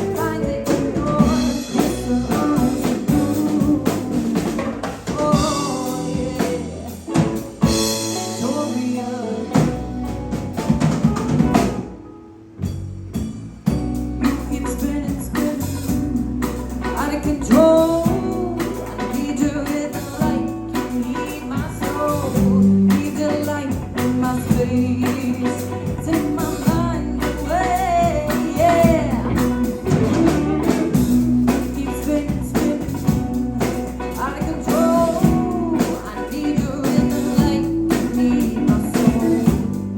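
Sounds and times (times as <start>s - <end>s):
person singing lead vocal: 0.0s - 10.0s, 14.2s - 39.9s
bass guitar: 0.0s - 39.9s
drum kit: 0.0s - 39.9s
electric guitars: 0.0s - 39.9s.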